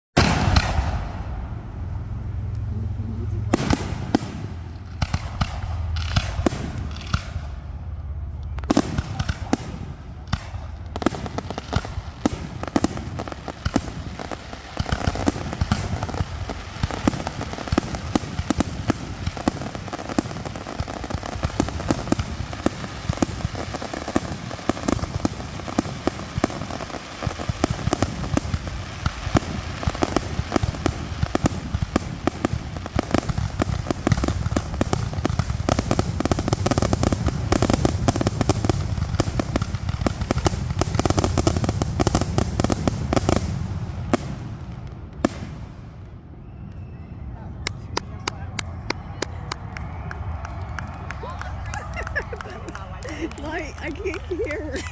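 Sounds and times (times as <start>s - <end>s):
fireworks barrage of bangs: 0.2s - 1.8s, 3.4s - 8.0s, 8.6s - 46.6s.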